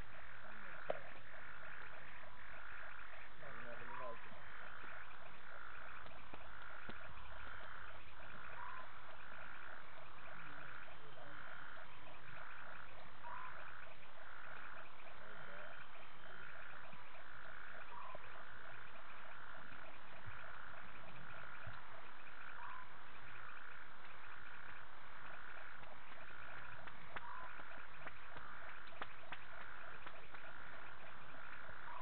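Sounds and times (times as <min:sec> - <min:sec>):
frog call repeating: 0:00.0 - 0:32.0.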